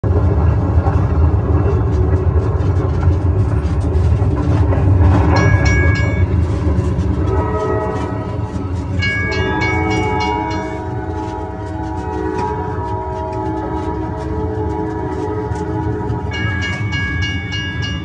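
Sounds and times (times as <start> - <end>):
park train rumbling: 0.0 - 18.0.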